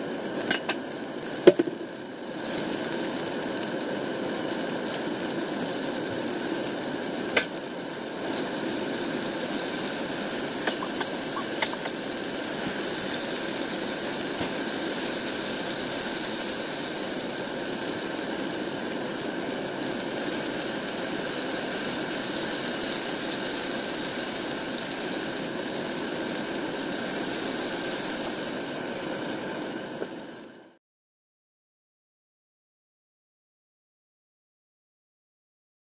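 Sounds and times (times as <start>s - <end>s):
hot oil sizzling: 0.0s - 30.8s.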